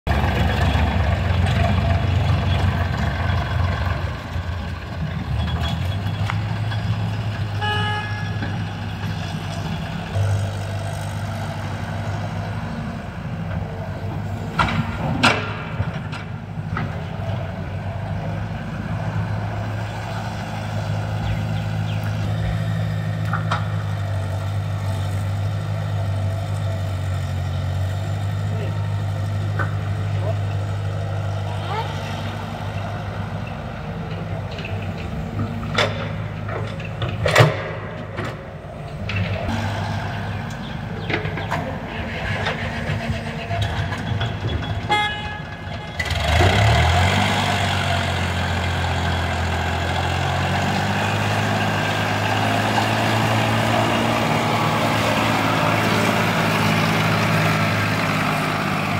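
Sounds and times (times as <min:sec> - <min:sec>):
tractor diesel engine: 0:00.0 - 0:58.9
excavator engine running: 0:00.1 - 0:58.9.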